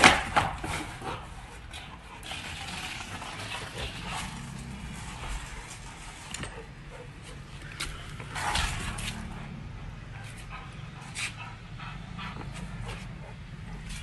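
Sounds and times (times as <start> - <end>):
dog breathing roughly: 0.6 - 2.4, 3.6 - 14.0.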